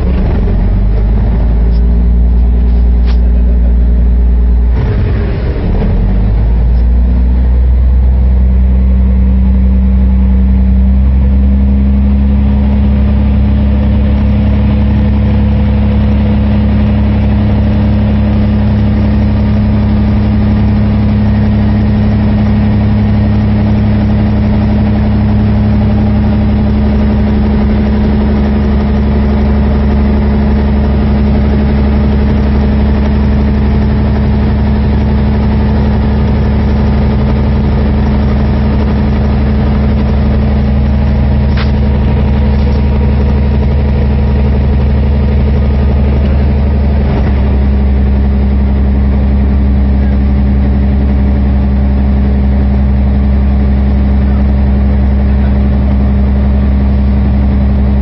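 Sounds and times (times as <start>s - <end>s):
diesel engine low drone: 0.0s - 58.0s.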